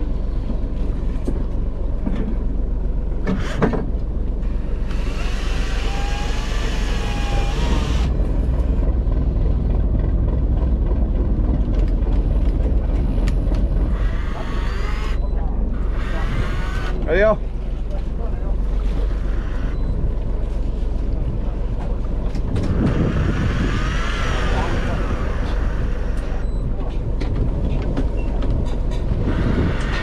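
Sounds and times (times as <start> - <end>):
boat engine rumbling: 0.0 - 30.0.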